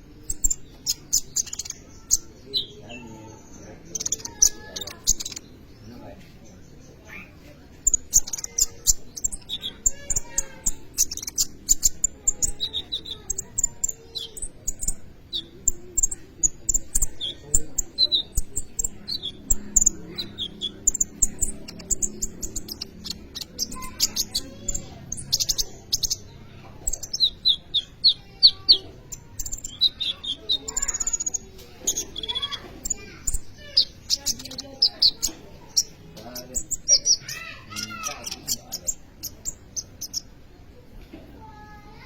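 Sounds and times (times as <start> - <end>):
sunbird singing high chirps and trills: 0.0 - 42.0.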